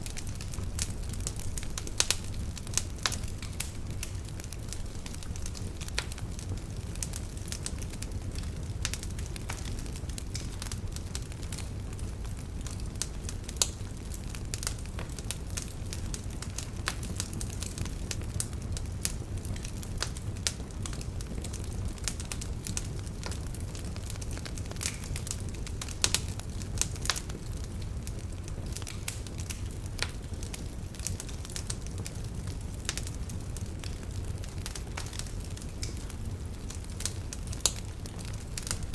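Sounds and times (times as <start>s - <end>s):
fire rumbling: 0.0s - 38.9s
logs crackling and popping: 0.0s - 38.9s.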